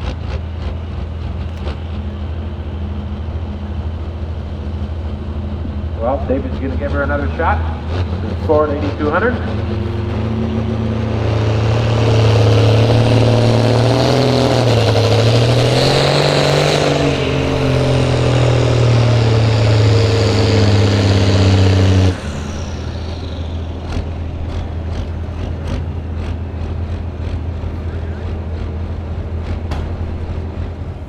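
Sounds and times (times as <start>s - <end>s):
tractor engine running under load: 0.0s - 31.0s.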